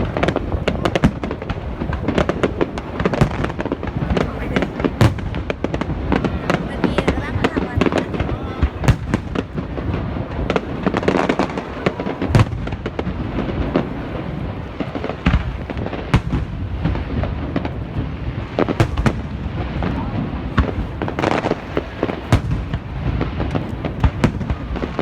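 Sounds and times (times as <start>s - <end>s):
fireworks bursting: 0.0s - 25.0s
fireworks rumble and crackle: 0.0s - 25.0s.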